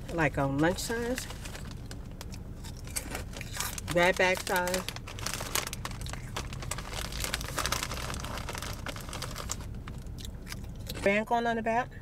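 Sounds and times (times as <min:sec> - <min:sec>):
plastic snack bag crinkling: 0:00.6 - 0:11.0.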